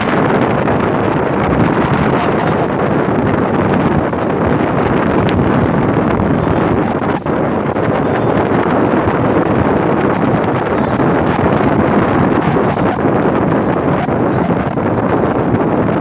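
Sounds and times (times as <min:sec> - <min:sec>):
wind across microphone: 0:00.0 - 0:16.0.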